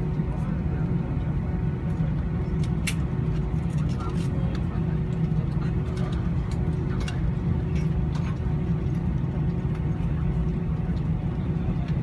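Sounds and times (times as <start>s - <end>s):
jet airliner cabin rumble: 0.0s - 12.0s.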